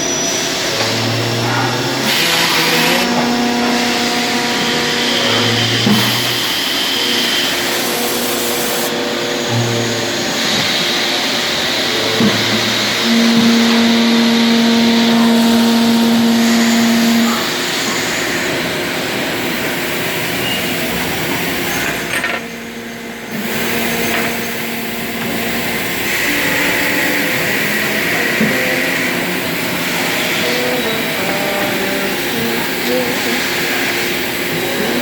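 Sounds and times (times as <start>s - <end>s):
high hiss: 0.0s - 22.1s, 22.8s - 35.0s
machinery humming: 0.0s - 35.0s.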